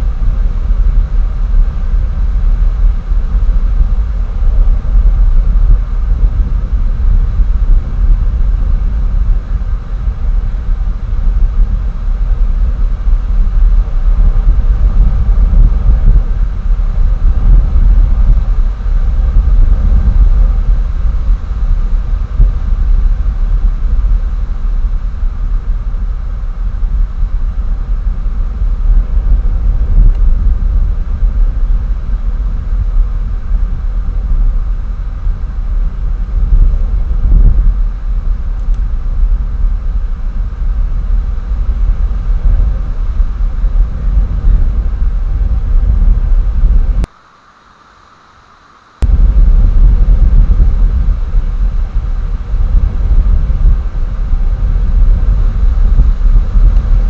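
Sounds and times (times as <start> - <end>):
wind buffeting microphone: 0.0 - 47.1, 49.0 - 57.0.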